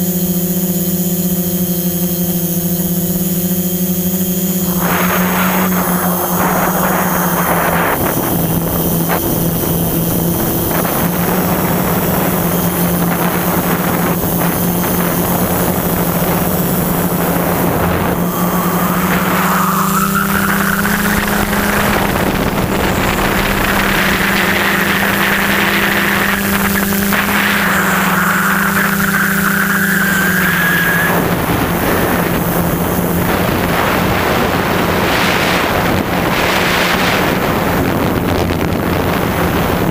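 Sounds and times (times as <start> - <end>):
drone motors buzzing: 0.0 - 39.9
rising motor whine: 0.0 - 39.9.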